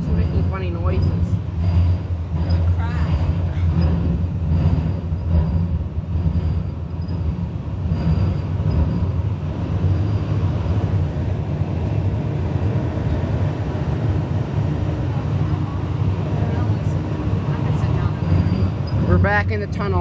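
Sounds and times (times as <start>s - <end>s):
rumble of train wheels: 0.0s - 20.0s.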